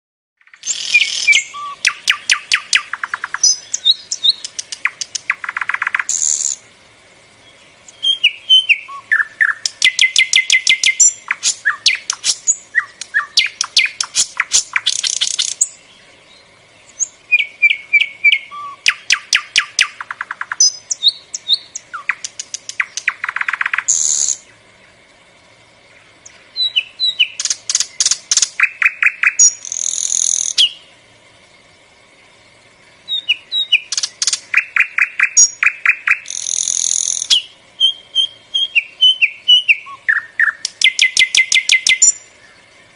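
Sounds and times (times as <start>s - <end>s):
songbird chirping and trilling: 0.4s - 42.9s.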